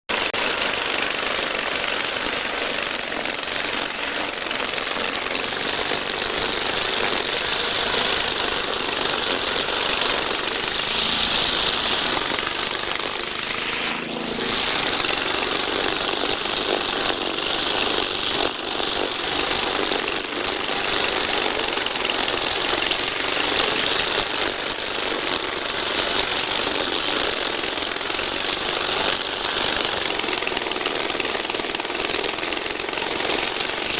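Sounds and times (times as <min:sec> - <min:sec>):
rattly mechanical clatter: 0:00.1 - 0:33.9
string trimmer engine running: 0:00.1 - 0:33.9.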